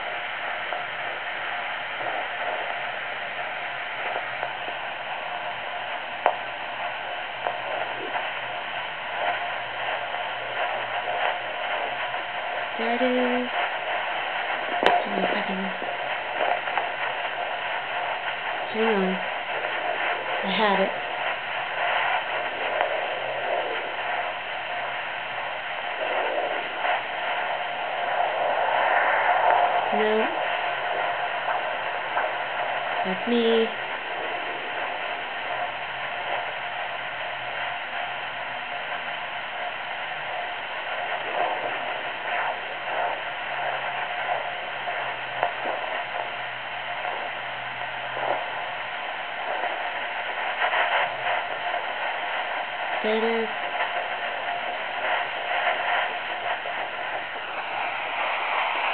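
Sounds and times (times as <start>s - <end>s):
doppler speaker static hiss: 0.0s - 58.9s.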